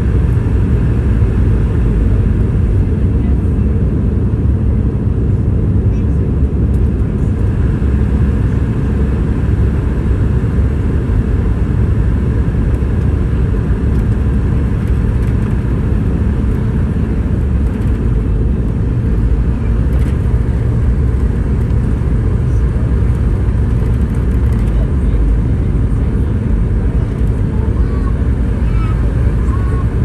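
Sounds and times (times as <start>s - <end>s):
airliner engine rumble: 0.0s - 30.0s.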